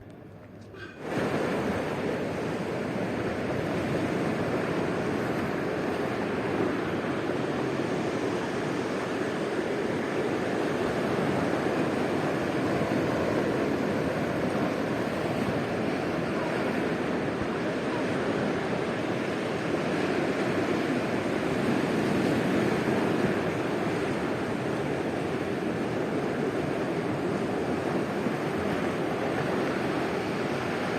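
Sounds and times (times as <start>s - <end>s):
ocean surf breaking: 0.0s - 30.9s.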